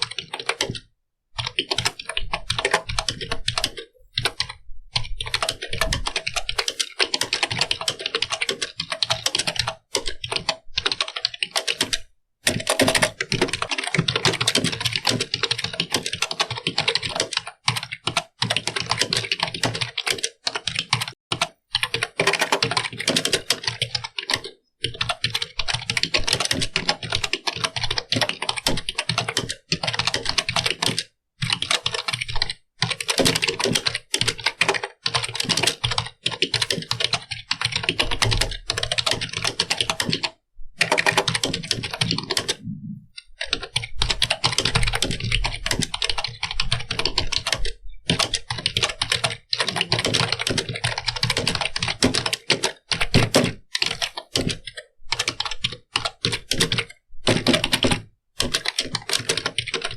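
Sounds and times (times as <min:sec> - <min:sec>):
keyboard typing clicks: 0:01.4 - 0:59.9.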